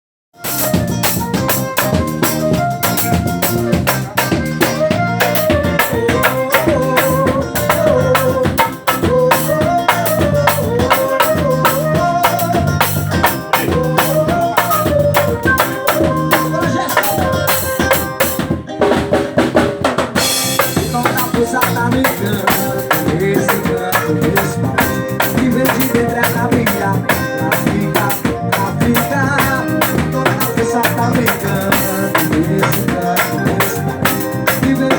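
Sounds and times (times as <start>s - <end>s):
band playing carnival music: 0.3s - 34.9s.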